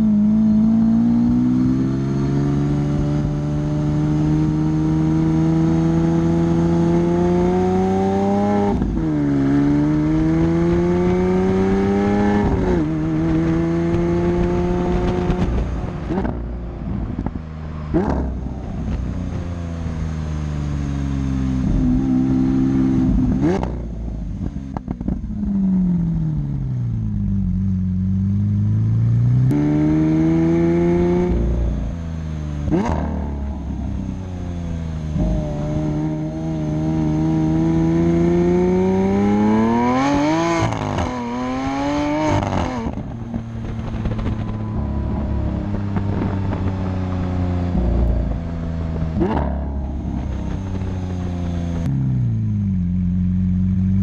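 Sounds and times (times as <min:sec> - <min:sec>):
sports car engine accelerating: 0:00.0 - 0:54.0.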